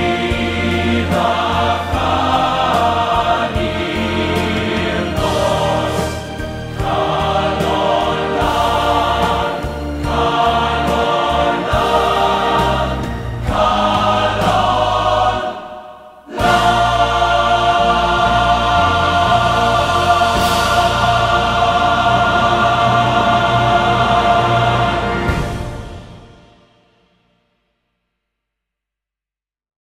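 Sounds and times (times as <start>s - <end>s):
music with choir singing: 0.0s - 27.1s.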